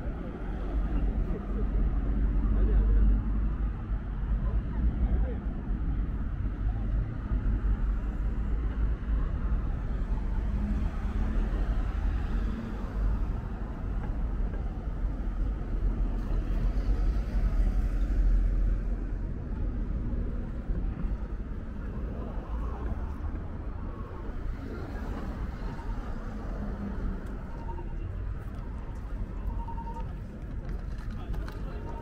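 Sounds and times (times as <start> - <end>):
cars passing: 5.8 - 32.0.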